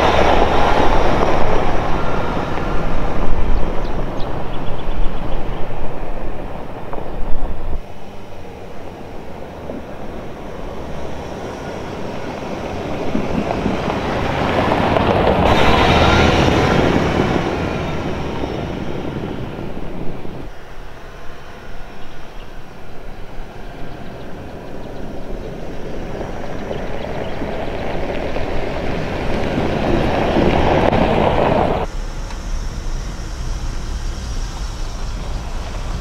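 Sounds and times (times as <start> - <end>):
vehicle engine and tyre rumble on gravel: 0.0 - 36.0.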